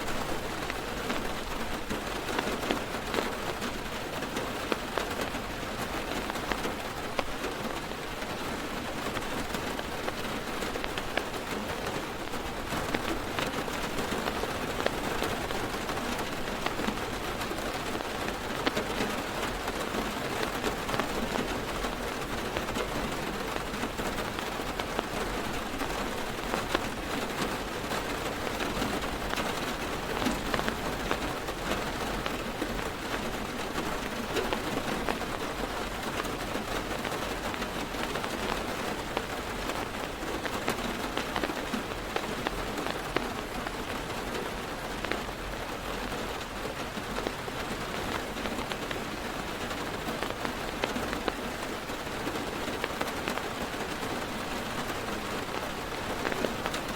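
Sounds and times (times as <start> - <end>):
heavy rain on car roof: 0.0 - 56.9.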